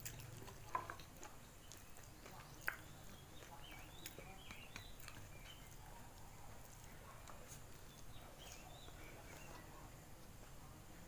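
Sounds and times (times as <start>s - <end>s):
chewing and lip smacks: 0.0s - 10.4s.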